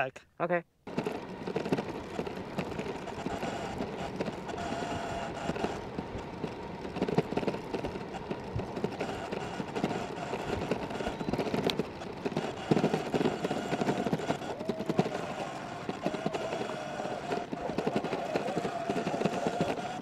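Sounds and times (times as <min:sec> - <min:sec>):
dirt bike tyres rolling: 0:00.9 - 0:20.0
faint whine: 0:00.9 - 0:20.0.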